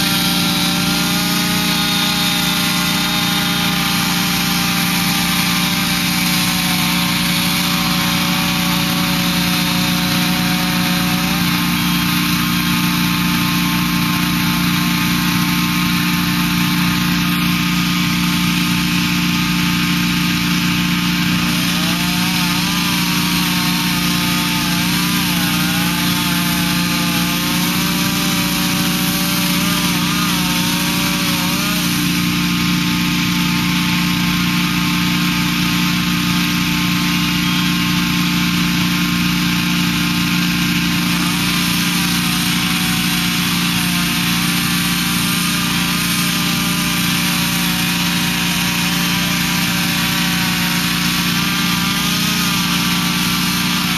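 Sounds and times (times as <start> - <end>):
power saw cutting roof: 0.0 - 53.9.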